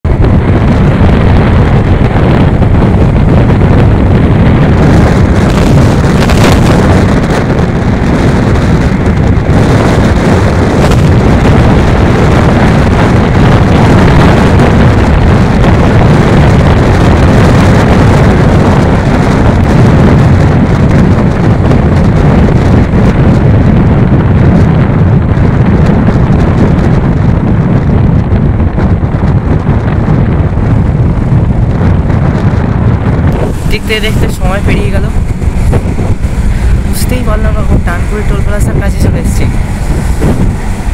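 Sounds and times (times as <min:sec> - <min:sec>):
motorcycle engine: 0:00.0 - 0:40.9
road noise: 0:00.0 - 0:40.9
wind buffeting microphone: 0:00.0 - 0:40.9.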